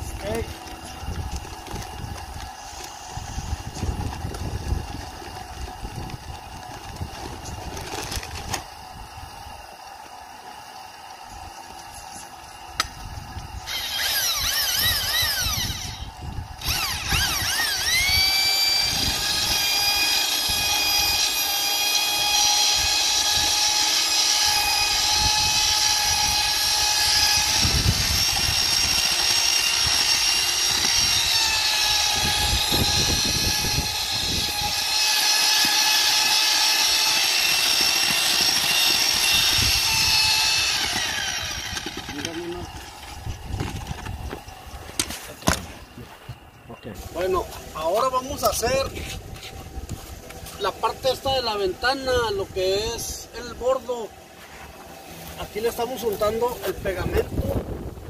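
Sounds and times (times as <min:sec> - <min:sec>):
electric drill mixing: 0:00.0 - 0:45.9, 0:46.9 - 0:58.0.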